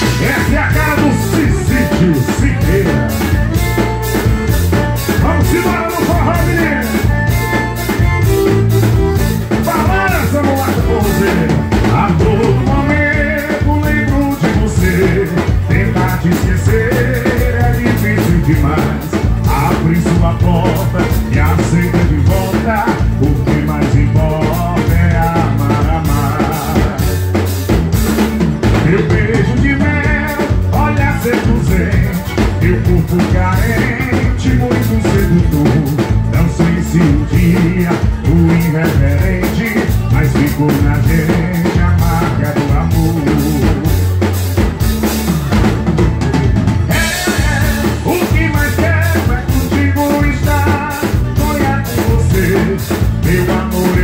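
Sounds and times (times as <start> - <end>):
band playing live: 0.0 - 54.0
driving drum beat: 0.0 - 54.0.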